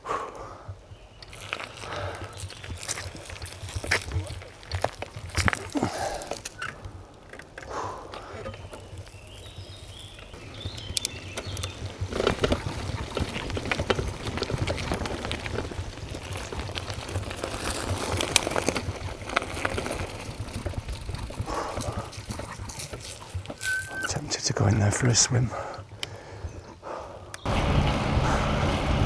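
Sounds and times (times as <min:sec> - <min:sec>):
bicycle rattles and knocks: 0:00.6 - 0:24.1, 0:27.5 - 0:29.0.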